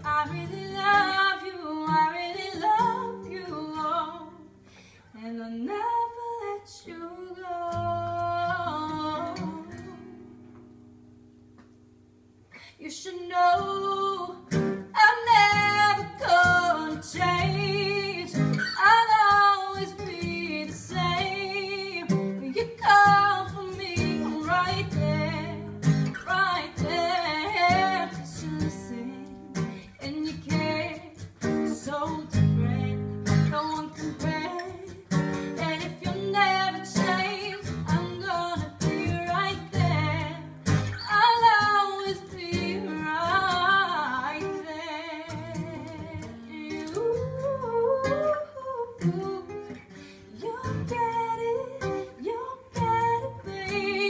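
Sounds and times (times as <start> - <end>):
strummed acoustic guitar: 0.0 - 5.0, 7.4 - 12.6, 13.4 - 54.0
woman singing pop song: 0.0 - 10.3, 12.6 - 54.0.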